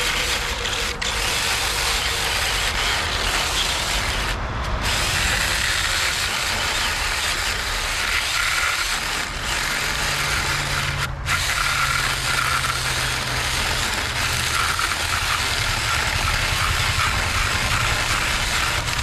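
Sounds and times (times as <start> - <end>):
electric chainsaw cutting log: 0.0 - 19.0.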